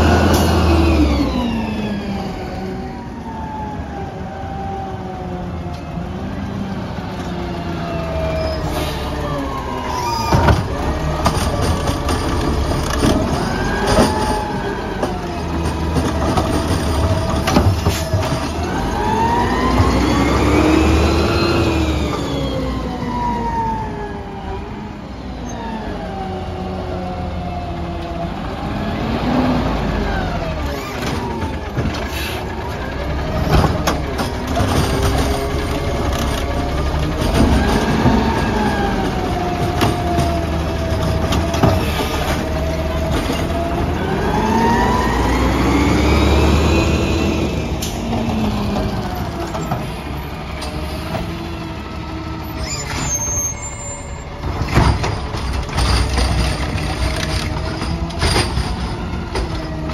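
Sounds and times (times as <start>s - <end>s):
garbage truck engine revving: 0.0s - 3.3s, 6.0s - 59.9s.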